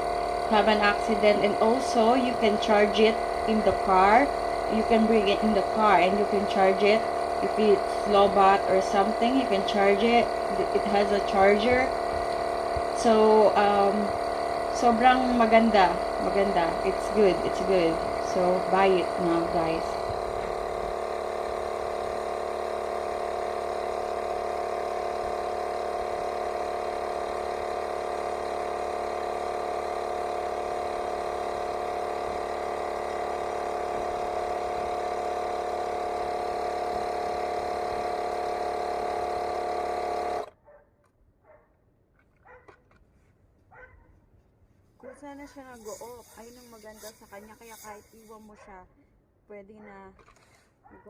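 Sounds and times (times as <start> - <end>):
air compressor inflating tyre: 0.0 - 40.5, 45.5 - 48.6.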